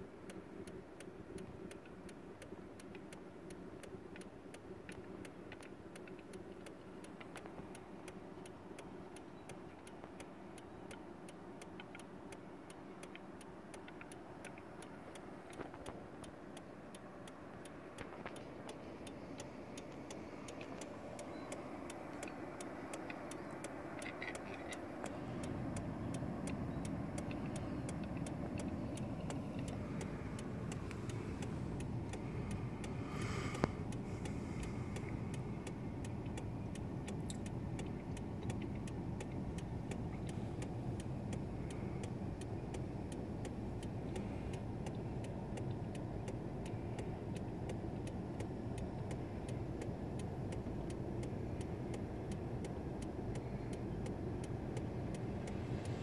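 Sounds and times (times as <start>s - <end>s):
car engine and tyre rumble: 0.0s - 56.0s
indicator relay ticking: 0.0s - 56.0s.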